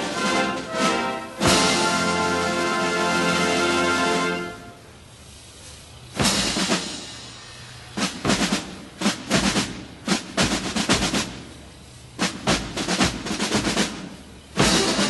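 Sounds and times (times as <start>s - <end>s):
snare drum rolls: 0.0s - 4.8s, 6.0s - 15.0s.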